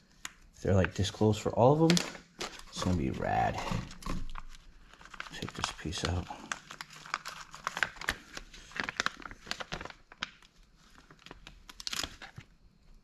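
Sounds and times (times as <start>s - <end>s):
plastic packaging crinkling: 0.1s - 12.6s.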